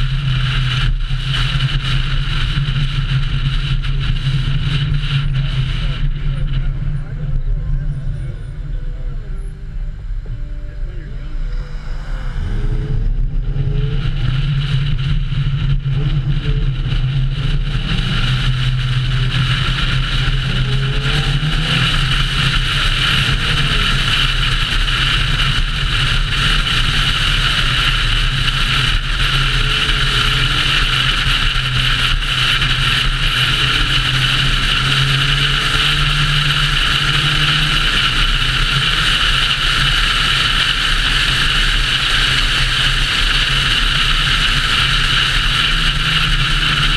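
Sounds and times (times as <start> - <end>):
car engine drone: 0.0 - 46.9
road noise: 0.0 - 46.9.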